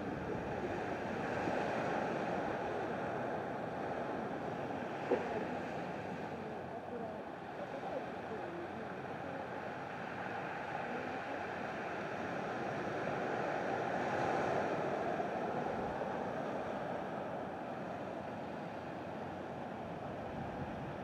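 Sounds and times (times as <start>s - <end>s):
sea surf washing on shore: 0.0s - 21.0s.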